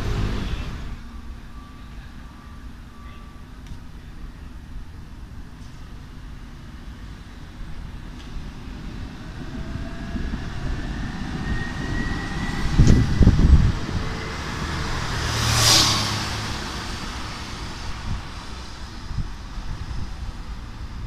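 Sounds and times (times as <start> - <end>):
high whine: 0.0 - 20.6
tram passing by: 0.0 - 21.0.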